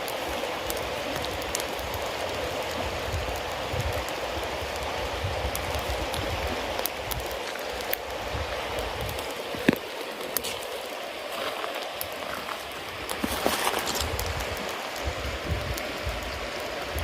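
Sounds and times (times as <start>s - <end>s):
fire crackles: 0.0s - 17.0s
hiss of damp fire: 0.0s - 17.0s.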